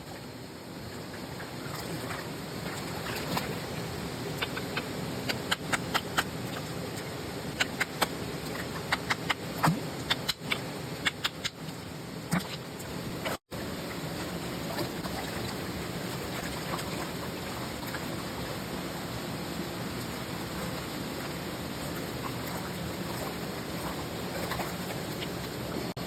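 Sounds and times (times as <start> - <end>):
steady rushing background: 0.0 - 26.0.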